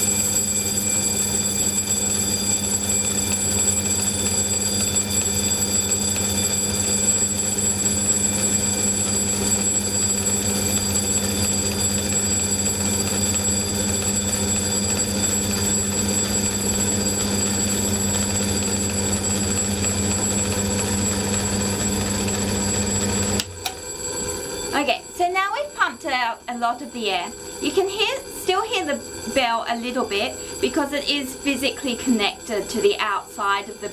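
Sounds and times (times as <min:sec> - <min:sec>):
faint electric bell ringing: 0:00.0 - 0:33.9
vacuum pump humming: 0:00.0 - 0:33.9.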